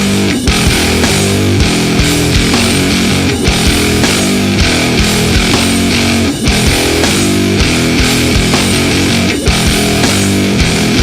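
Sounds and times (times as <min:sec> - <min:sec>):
distorted electric guitar: 0:00.0 - 0:11.0
driving drum beat: 0:00.0 - 0:11.0.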